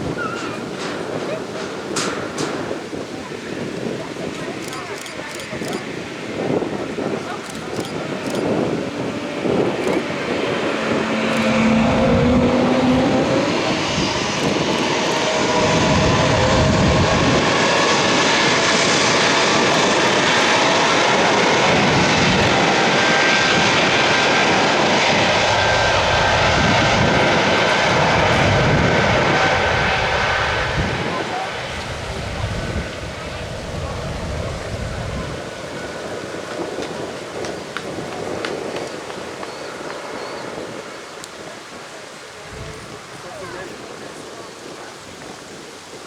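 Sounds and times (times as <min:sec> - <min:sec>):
airplane engine noise: 0:00.0 - 0:46.0.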